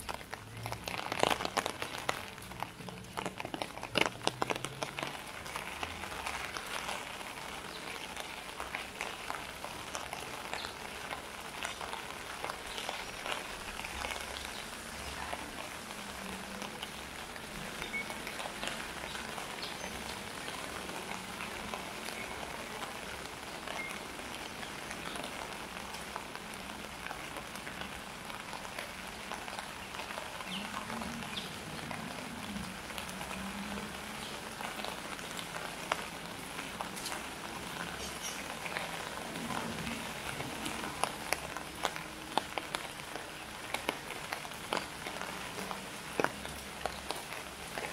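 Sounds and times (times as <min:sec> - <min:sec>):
drops dripping on wet surfaces: 0:00.0 - 0:47.9
steady rain falling: 0:00.0 - 0:47.9.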